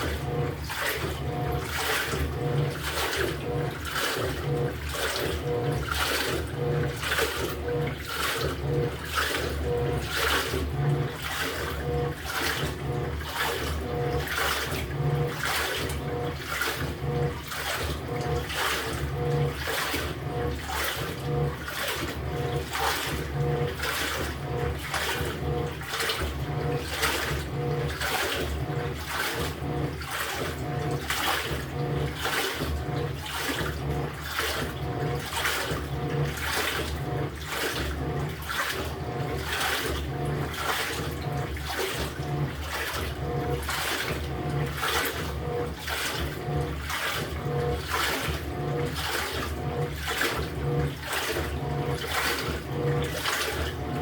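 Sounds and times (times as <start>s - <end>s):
faint pulsing motor hum: 0.0s - 54.0s
washing machine churning water: 0.0s - 54.0s.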